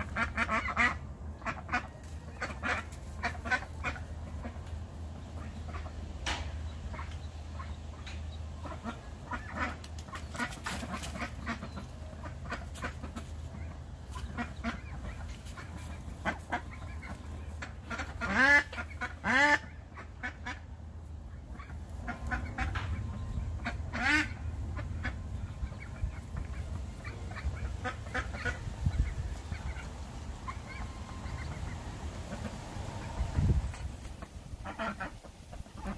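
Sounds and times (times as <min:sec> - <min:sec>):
duckling peeping: 0:00.0 - 0:06.0, 0:06.6 - 0:35.9
ducks quacking: 0:00.0 - 0:35.9.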